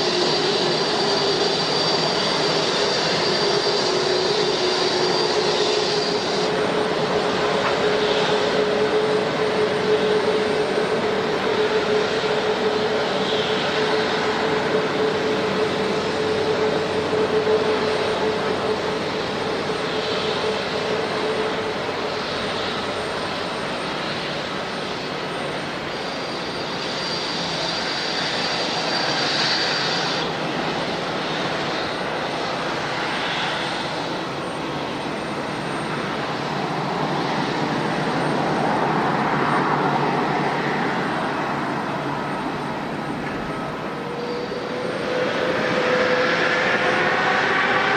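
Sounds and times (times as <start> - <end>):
airliner engines rushing: 0.0 - 47.9.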